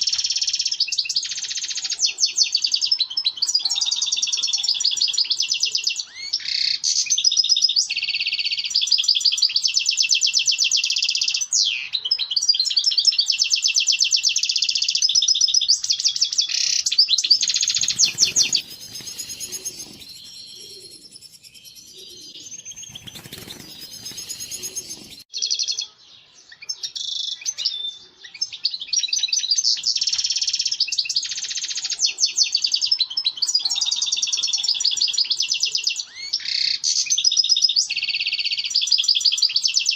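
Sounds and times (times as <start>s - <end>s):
finch twittering and trilling: 0.0s - 39.9s.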